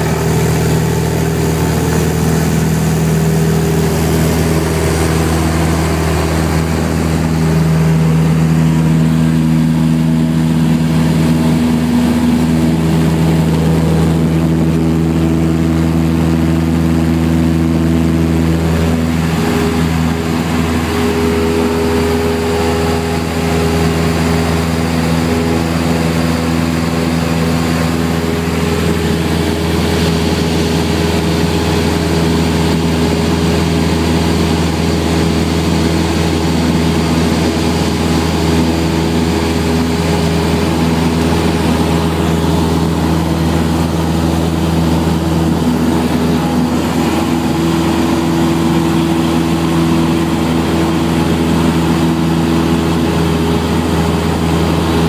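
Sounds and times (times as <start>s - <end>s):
propeller plane engine at full power: 0.0s - 55.0s.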